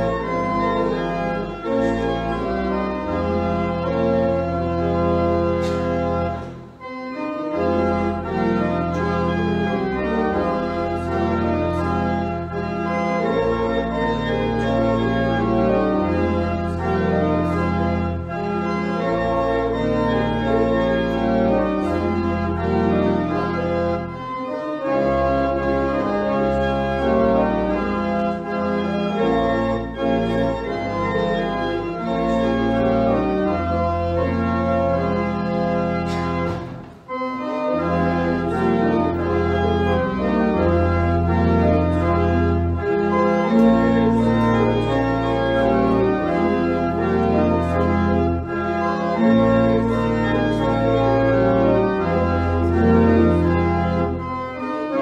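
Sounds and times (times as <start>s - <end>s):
church organ playing a hymn: 0.0s - 55.0s.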